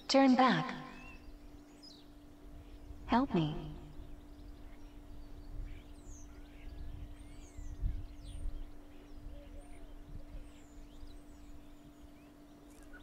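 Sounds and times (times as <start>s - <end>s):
steady low hum: 0.0s - 13.0s
faint bird chirps: 0.7s - 13.0s.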